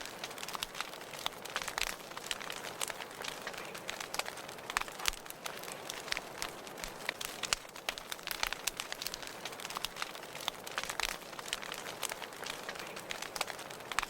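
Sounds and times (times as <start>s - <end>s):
soft steady fire hiss: 0.0s - 14.0s
wood fire crackling and popping: 0.0s - 14.0s.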